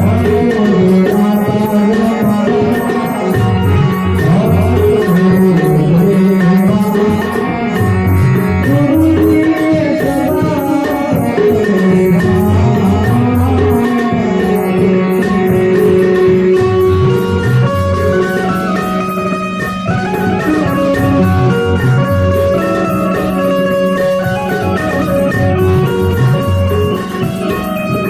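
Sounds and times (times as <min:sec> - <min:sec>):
hand drum rhythm: 0:00.0 - 0:28.0
melodic instrument line: 0:00.0 - 0:28.0.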